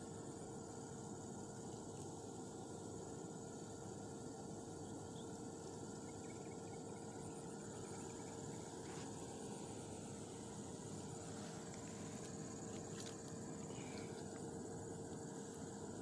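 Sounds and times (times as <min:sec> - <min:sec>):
constant low hum: 0:00.0 - 0:16.0
insects chirping: 0:00.0 - 0:16.0.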